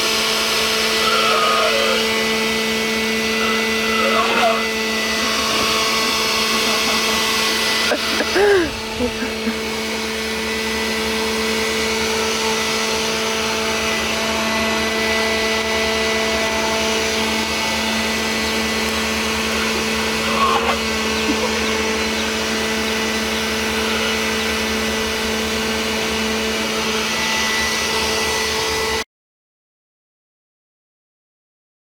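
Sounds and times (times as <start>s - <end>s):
small electric motor humming: 0.0s - 29.0s.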